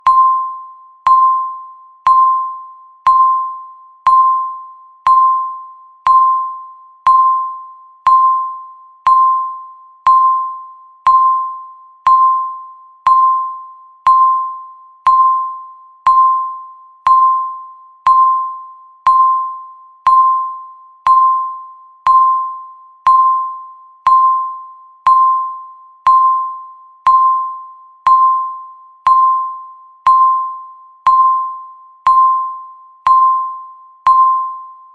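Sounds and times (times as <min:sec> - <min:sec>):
countdown timer beeps: 0:00.0 - 0:34.9.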